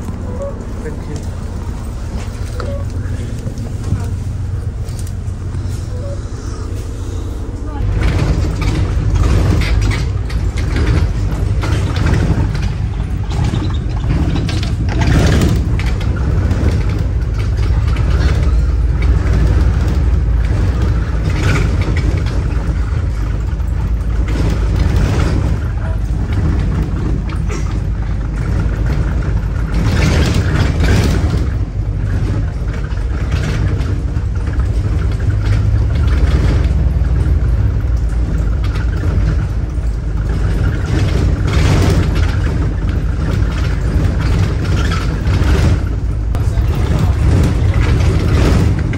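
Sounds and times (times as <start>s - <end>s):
bodywork rattling over bumps: 0.0s - 5.9s, 6.8s - 48.9s
bus engine and road rumble: 0.0s - 48.9s.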